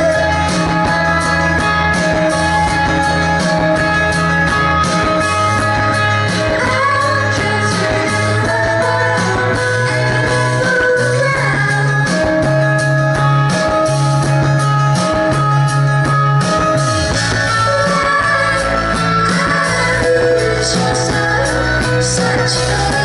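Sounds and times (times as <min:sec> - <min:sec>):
woman singing: 0:00.0 - 0:13.7, 0:17.2 - 0:23.0
bass notes: 0:00.0 - 0:23.0
drums: 0:00.0 - 0:23.0
electric guitar: 0:00.0 - 0:23.0.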